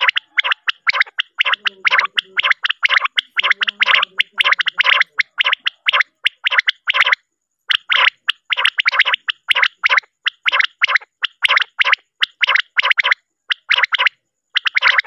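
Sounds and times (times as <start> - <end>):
quail calling: 0.0 - 15.0.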